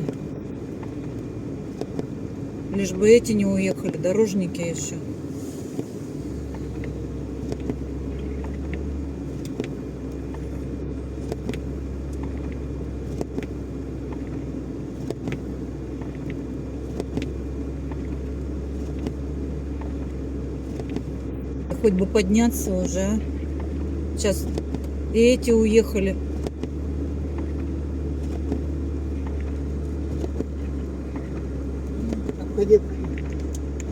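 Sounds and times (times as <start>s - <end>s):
truck diesel engine droning: 0.0s - 33.9s.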